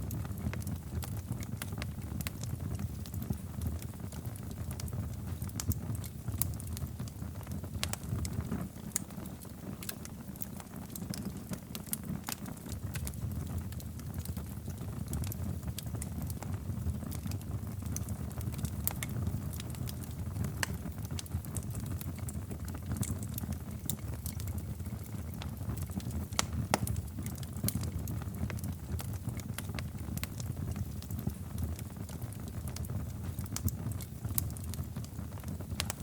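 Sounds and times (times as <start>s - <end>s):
fire flames rumbling: 0.0s - 36.0s
wood fire crackling and popping: 0.0s - 36.0s.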